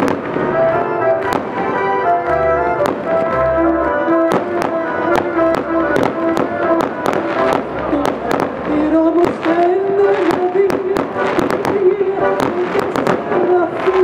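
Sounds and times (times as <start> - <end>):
fireworks banging: 0.0 - 14.0
music with long held notes: 0.0 - 14.0.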